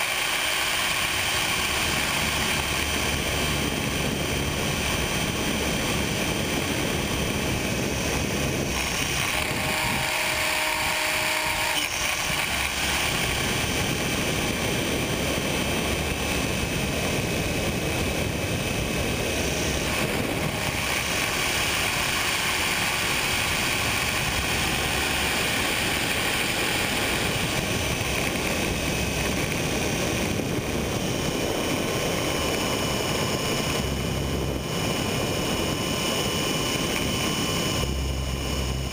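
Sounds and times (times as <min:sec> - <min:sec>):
model helicopter motor and rotor: 0:00.0 - 0:38.9
wind rush: 0:00.0 - 0:38.9.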